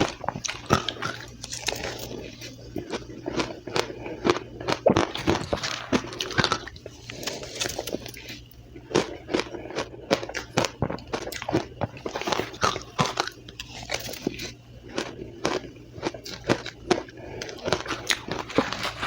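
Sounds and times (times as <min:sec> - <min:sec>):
chewing crunchy ice: 0:00.0 - 0:19.0.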